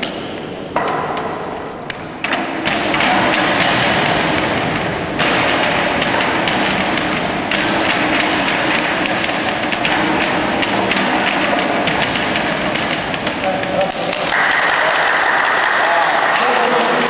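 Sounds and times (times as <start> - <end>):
hands striking wooden dummy: 0.0 - 14.8.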